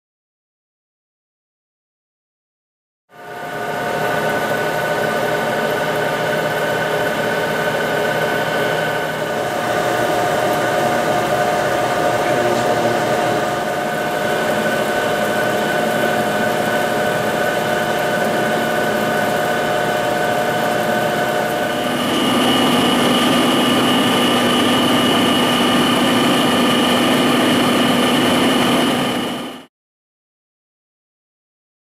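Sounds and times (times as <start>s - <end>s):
lathe spindle whine: 3.2s - 29.7s.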